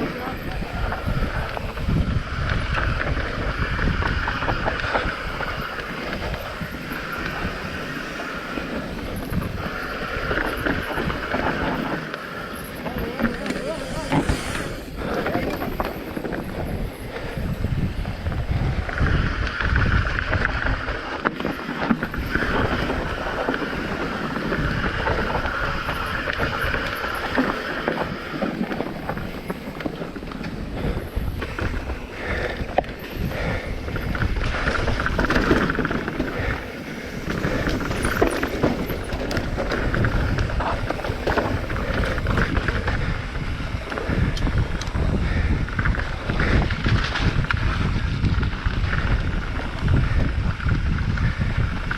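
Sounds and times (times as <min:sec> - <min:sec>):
bike rattling over bumps: 0:00.0 - 0:51.9
tyres rumbling on gravel: 0:00.0 - 0:51.9
wind rushing over microphone: 0:00.0 - 0:51.9.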